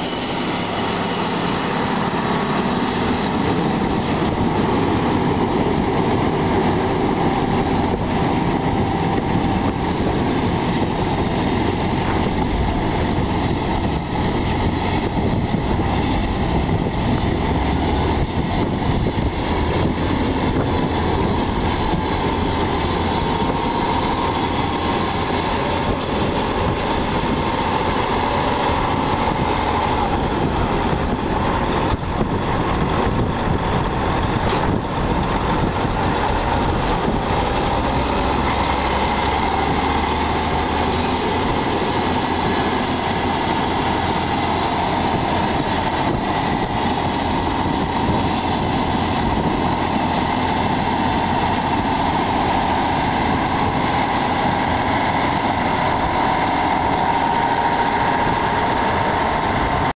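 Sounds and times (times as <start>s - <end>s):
tractor diesel engine rumbling: 0.0s - 59.9s.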